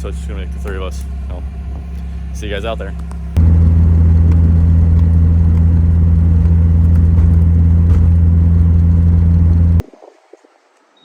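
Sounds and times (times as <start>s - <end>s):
car engine running steadily: 0.0s - 9.8s.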